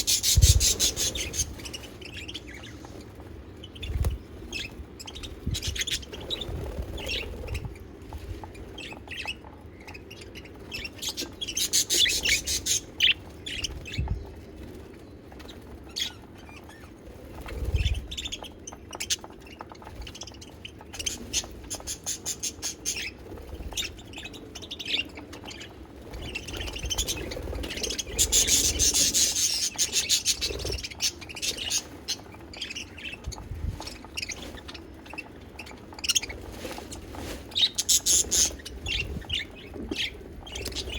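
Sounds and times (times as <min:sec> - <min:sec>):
budgies chattering and chirping: 0:00.0 - 0:40.9.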